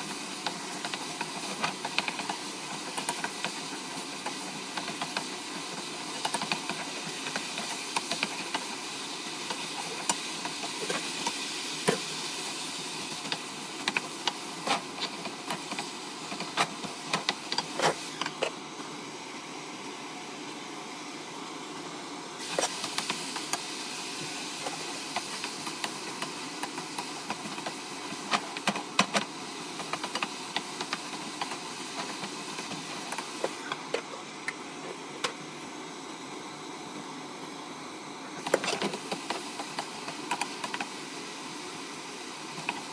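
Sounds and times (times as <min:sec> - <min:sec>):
sauce sizzling with pops: 0:00.0 - 0:18.5, 0:22.4 - 0:34.6, 0:38.4 - 0:41.6, 0:42.4 - 0:42.9.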